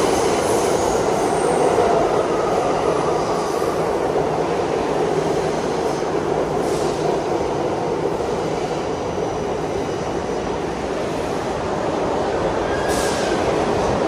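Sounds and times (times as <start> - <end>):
subway train wheels on rail: 0.0 - 14.0.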